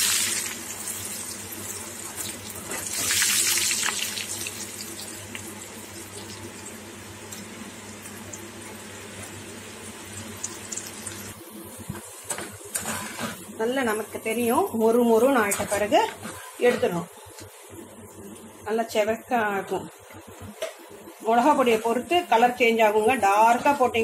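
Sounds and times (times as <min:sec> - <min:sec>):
deep-frying sizzle with crackles: 0:00.0 - 0:24.0.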